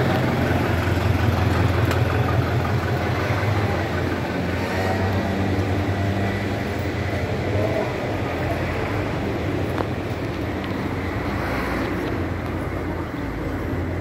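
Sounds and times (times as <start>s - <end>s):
traffic rumble: 0.0s - 14.0s
vehicle engine running nearby: 0.0s - 14.0s.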